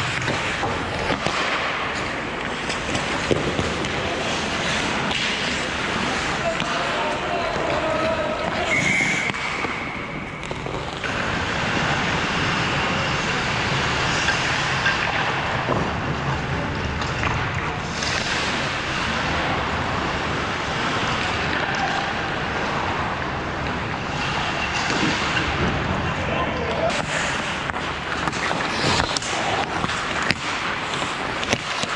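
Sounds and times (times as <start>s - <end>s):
skate blades scraping ice: 0.0s - 26.2s, 26.8s - 31.9s
ice rink practice rushing noise: 0.0s - 31.9s.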